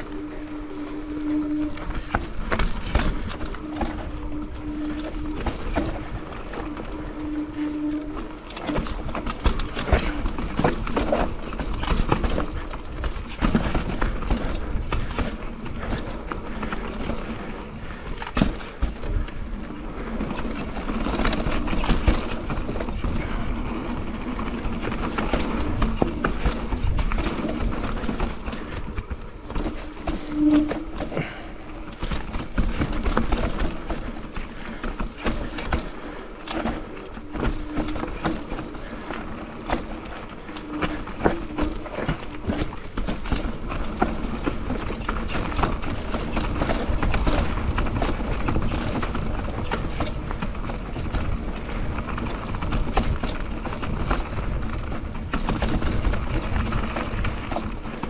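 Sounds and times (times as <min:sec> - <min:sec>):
bike rattling over rough trail: 0:00.0 - 0:58.0
wind noise on microphone: 0:00.0 - 0:58.0.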